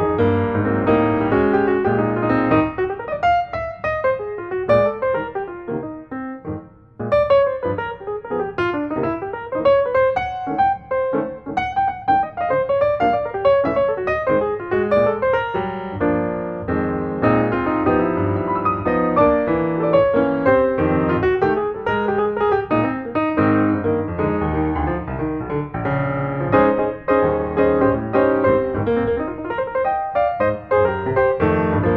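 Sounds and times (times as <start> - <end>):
piano music: 0.0 - 31.9.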